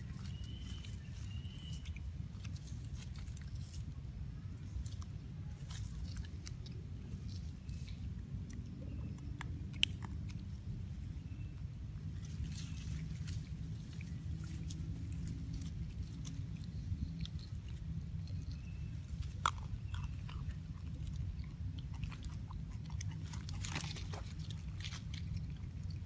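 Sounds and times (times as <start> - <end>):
monkey chewing food crunching: 0.0 - 26.0
steady low rumble: 0.0 - 26.0.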